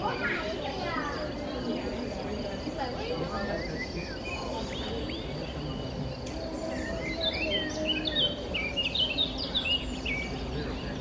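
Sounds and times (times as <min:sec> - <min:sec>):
small birds chirping: 0:00.0 - 0:11.0
steady background noise: 0:00.0 - 0:11.0.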